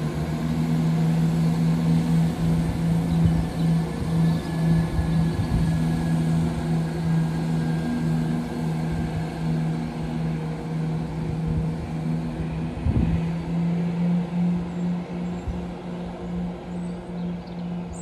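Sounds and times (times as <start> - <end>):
wind buffeting microphone: 0.0 - 17.8
diesel train engine droning: 0.0 - 18.0.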